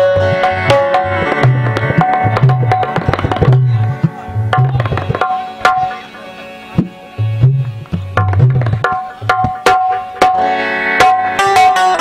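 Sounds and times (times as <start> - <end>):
sustained harmonium notes: 0.0 - 12.0
tabla drumming: 0.0 - 12.0.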